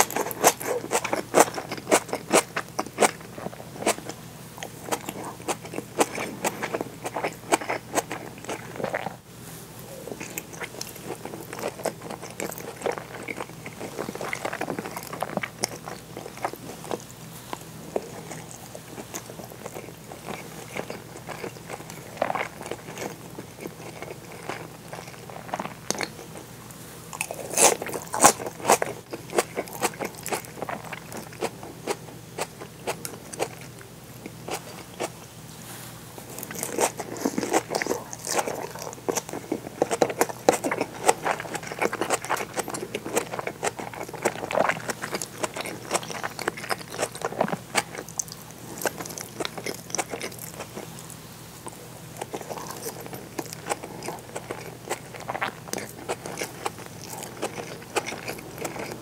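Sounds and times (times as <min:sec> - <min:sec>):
crisp crunching of food: 0:00.0 - 0:09.2, 0:09.8 - 0:35.2, 0:36.2 - 0:59.0
wet chewing: 0:00.0 - 0:09.2, 0:09.8 - 0:26.4, 0:27.1 - 0:35.2, 0:36.3 - 0:59.0.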